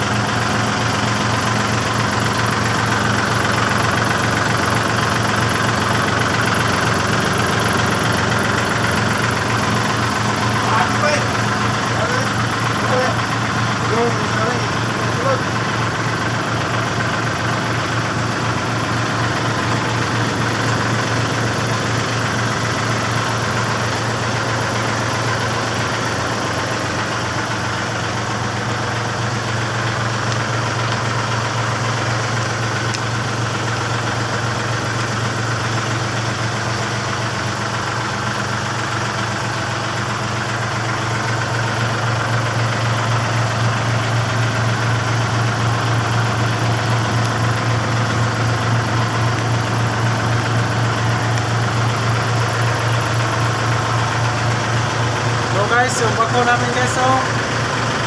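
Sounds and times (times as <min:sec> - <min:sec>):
backhoe engine idling: 0:00.0 - 0:58.0.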